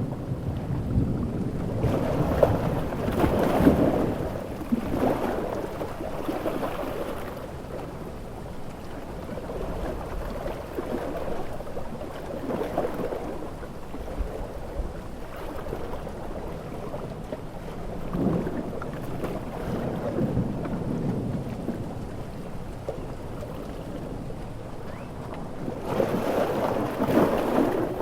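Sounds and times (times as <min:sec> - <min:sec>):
sea waves breaking: 0:00.0 - 0:28.0.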